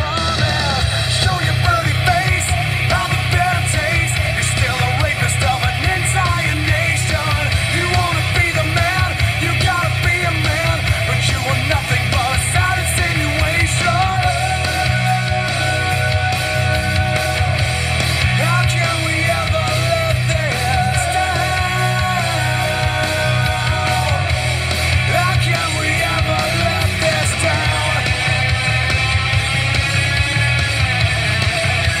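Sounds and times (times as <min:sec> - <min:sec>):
heavy bass line: 0:00.0 - 0:32.0
rock song through speaker: 0:00.0 - 0:32.0.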